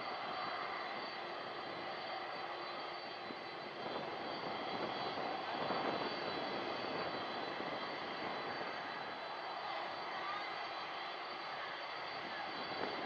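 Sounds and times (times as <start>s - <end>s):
jet engines with high whine: 0.0s - 13.0s.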